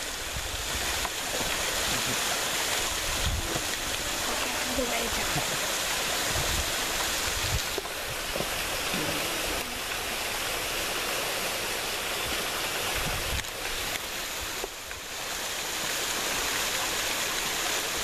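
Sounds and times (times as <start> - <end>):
waterfall rushing onto rocks: 0.0 - 18.0.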